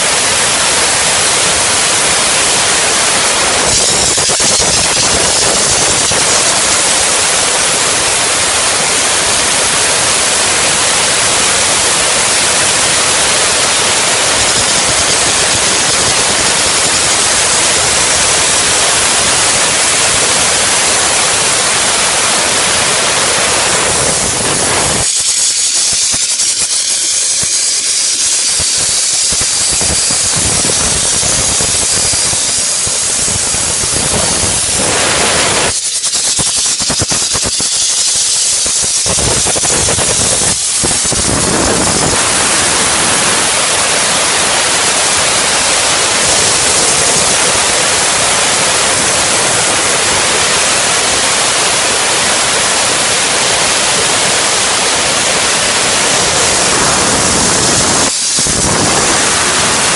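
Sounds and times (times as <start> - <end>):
steam gun hissing: 0.0 - 59.9.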